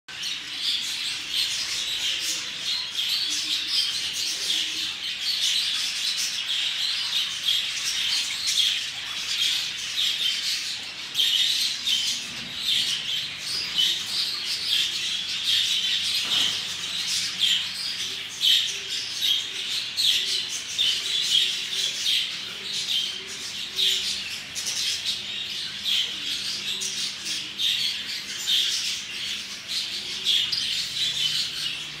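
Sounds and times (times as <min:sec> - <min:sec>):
caged birds chirping: 0:00.1 - 0:32.0.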